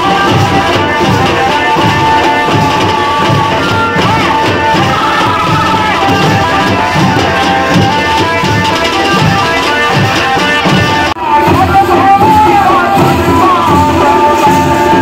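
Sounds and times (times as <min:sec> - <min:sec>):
folk music: 0:00.0 - 0:15.0
steady drum beat: 0:00.0 - 0:15.0.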